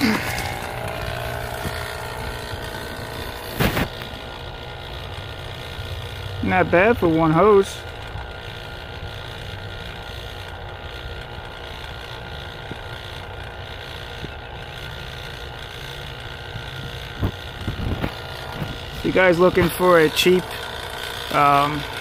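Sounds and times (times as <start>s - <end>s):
vacuum pump humming: 0.0s - 22.0s.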